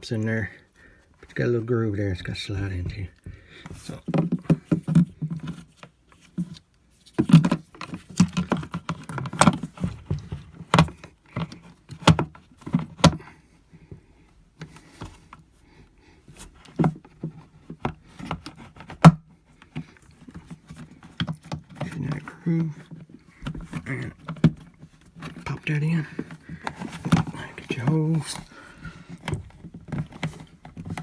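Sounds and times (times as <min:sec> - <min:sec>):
plastic parts clicking and scraping: 0:02.2 - 0:13.3, 0:16.3 - 0:31.0.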